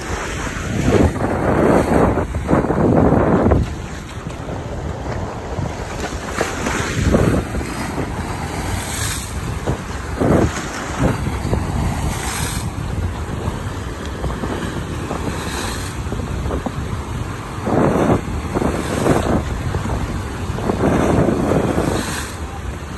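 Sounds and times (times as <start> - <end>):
waves crashing against rocks: 0.0 - 22.9
wind buffeting microphone: 0.0 - 22.9.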